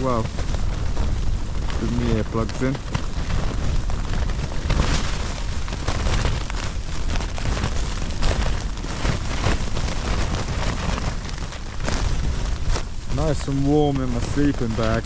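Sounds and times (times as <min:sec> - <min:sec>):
low wind rumble: 0:00.0 - 0:15.0
tent fabric flapping: 0:00.0 - 0:15.0.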